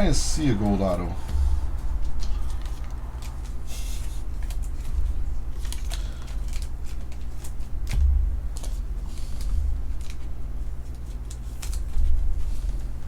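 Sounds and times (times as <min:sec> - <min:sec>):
wrapper rustle: 0:02.0 - 0:13.0.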